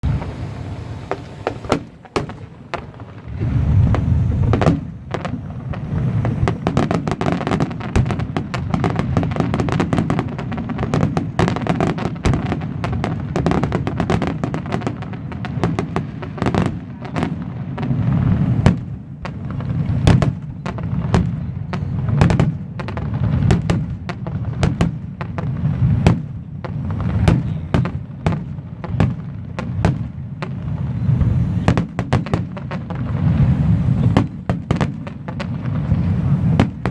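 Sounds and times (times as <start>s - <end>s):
fireworks cracking and banging: 0.0s - 36.9s.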